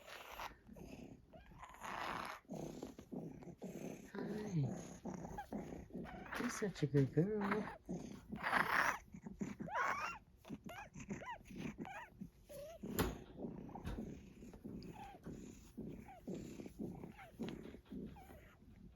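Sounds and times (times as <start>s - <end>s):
pet wheezing: 0.0s - 18.9s.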